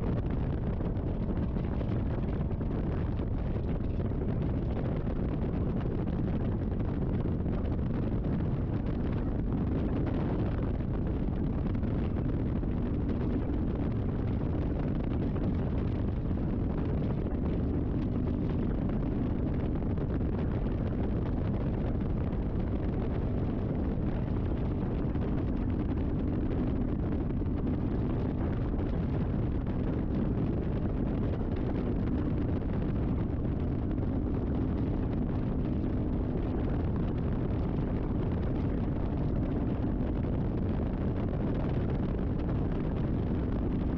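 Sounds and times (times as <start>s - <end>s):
motorcycle engine drone: 0.0s - 43.9s
wind rush on microphone: 0.0s - 43.9s.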